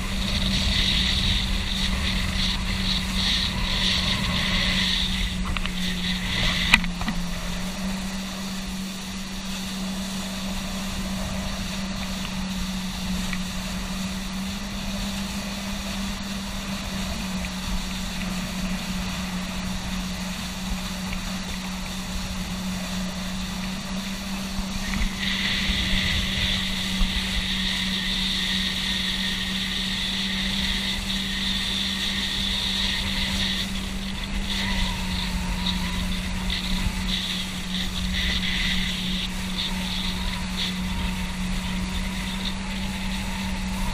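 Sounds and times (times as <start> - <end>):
motorboat engine running: 0.0 - 43.9
rushing water: 0.0 - 43.9
wind: 0.0 - 43.9.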